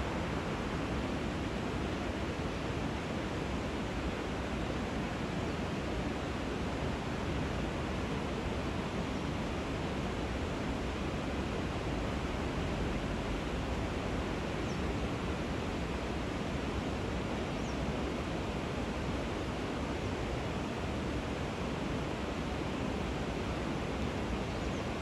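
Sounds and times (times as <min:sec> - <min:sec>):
river water rushing at a weir: 0:00.0 - 0:25.0.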